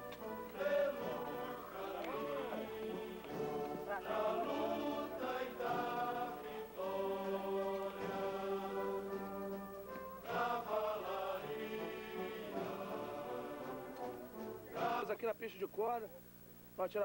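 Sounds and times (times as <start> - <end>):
voices singing chant-like phrases: 0.1 - 15.6.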